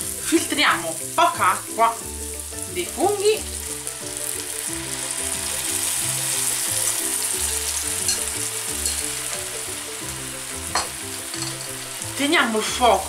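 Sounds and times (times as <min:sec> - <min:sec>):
mushrooms sizzling in a frying pan: 0:00.0 - 0:13.0
soft background music: 0:00.0 - 0:13.0.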